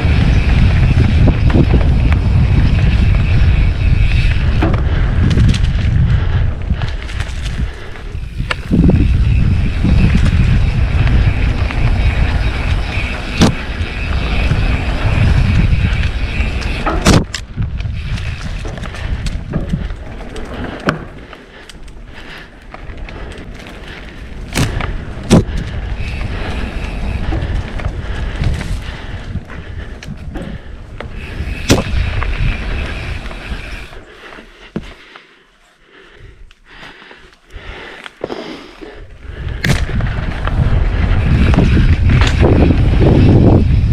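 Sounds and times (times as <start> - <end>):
wind rumble on microphone: 0.0 - 21.3, 22.0 - 34.0, 38.9 - 43.9
bike knocking and clattering: 0.0 - 35.0, 39.4 - 43.9
tyre noise on dirt: 0.0 - 35.1, 37.9 - 43.9.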